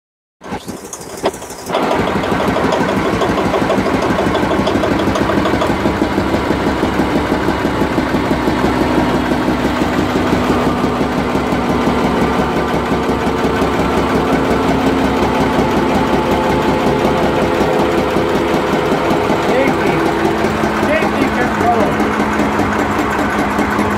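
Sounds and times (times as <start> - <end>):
stationary engine running: 0.4 - 23.9.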